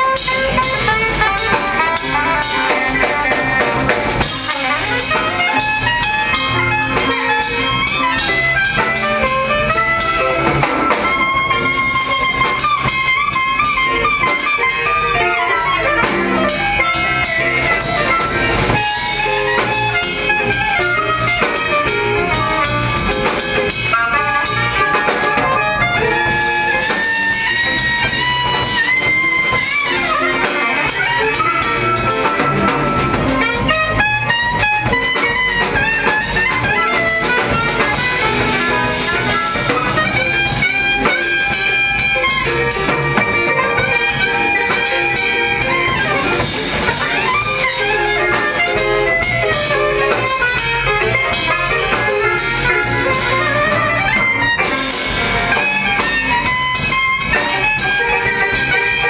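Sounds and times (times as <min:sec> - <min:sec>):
drum kit: 0:00.0 - 0:59.0
guitar: 0:00.0 - 0:59.0
soprano saxophone melody: 0:00.0 - 0:59.0.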